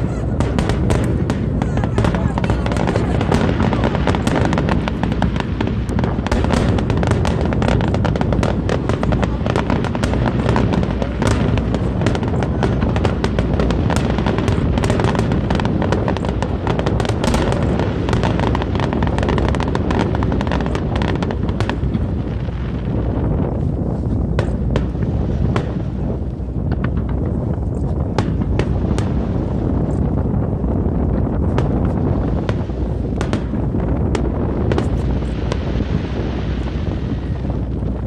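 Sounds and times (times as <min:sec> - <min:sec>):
fireworks crackling: 0:00.0 - 0:38.0
low rumble: 0:00.0 - 0:38.0.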